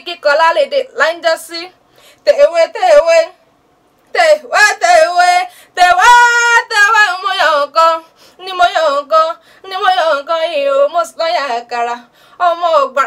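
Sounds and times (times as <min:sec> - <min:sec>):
woman chanting unaccompanied: 0:00.0 - 0:03.4, 0:04.2 - 0:13.0.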